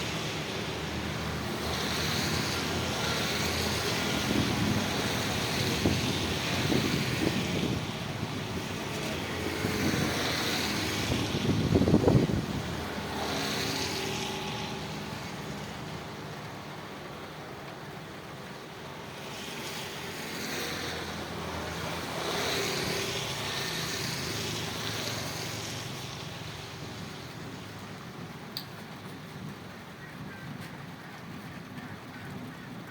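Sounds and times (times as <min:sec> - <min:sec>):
passing motor vehicles humming: 0:00.0 - 0:32.9
rain rushing: 0:00.0 - 0:32.9.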